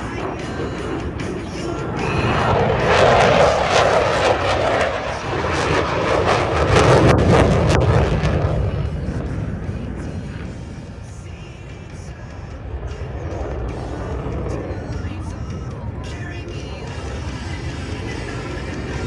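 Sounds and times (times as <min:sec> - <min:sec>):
airplane engine roar: 0:00.0 - 0:19.0.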